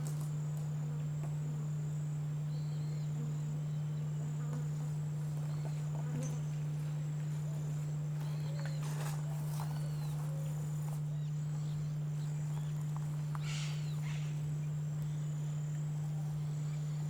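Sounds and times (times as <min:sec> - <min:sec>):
low hum: 0:00.0 - 0:17.0
high-pitched insect trill: 0:01.4 - 0:17.0
faint bird chirps: 0:02.4 - 0:17.0.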